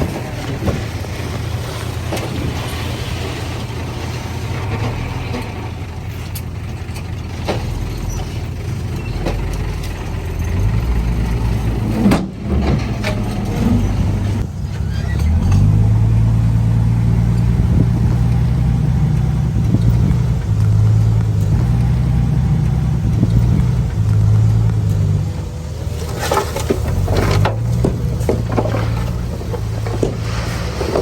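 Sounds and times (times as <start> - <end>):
bulldozer diesel engine: 0.0 - 31.0
metal clanks and rattles: 0.0 - 31.0.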